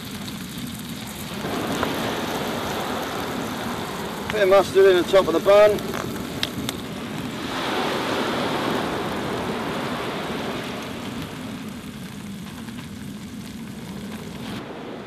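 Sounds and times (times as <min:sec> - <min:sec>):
waves washing over shingle: 0:00.0 - 0:15.0.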